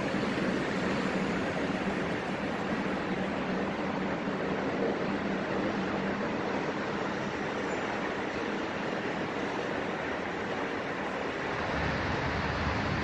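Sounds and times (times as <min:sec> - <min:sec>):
distant traffic hiss: 0:00.0 - 0:13.0
train rolling on tracks: 0:00.0 - 0:13.0.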